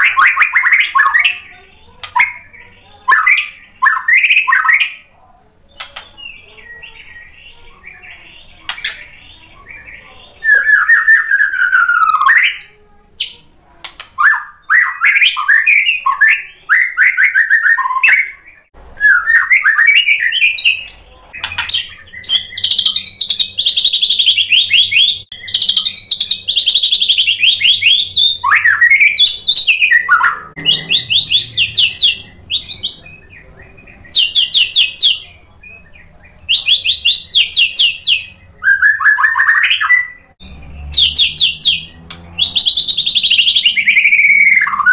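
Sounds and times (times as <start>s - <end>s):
songbird whistling and trilling: 0.0s - 5.1s, 5.7s - 13.4s, 14.2s - 44.9s.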